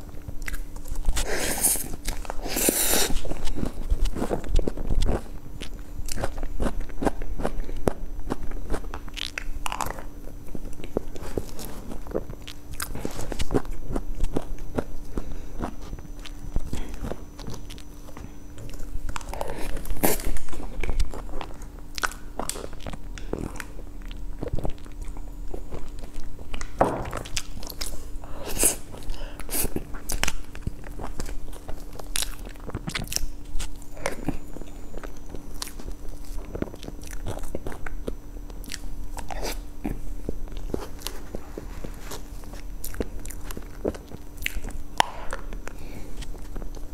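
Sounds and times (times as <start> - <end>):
faint steady hum: 0.0 - 46.9
mouth smacks and chewing: 0.2 - 46.9.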